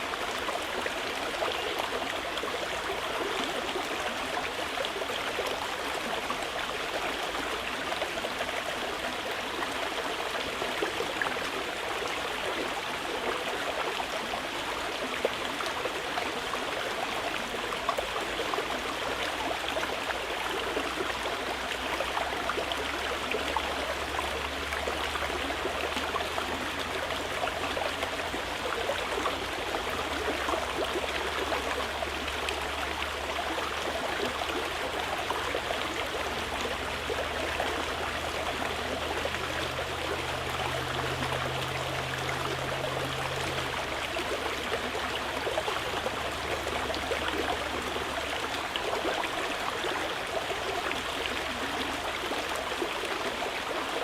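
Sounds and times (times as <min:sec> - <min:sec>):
river flowing over stones: 0:00.0 - 0:54.0.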